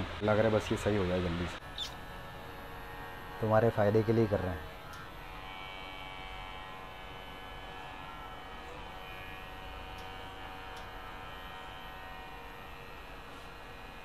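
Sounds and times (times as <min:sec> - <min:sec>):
electric hair clipper humming: 0:01.6 - 0:14.0.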